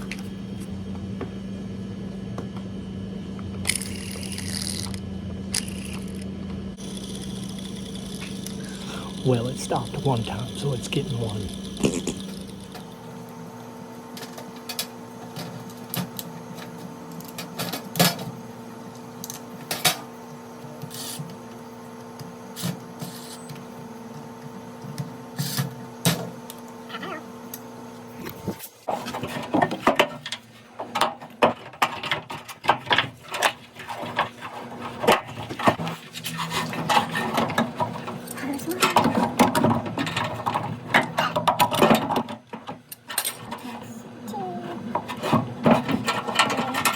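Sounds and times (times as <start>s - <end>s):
washer drain pump humming: 0.0s - 46.9s.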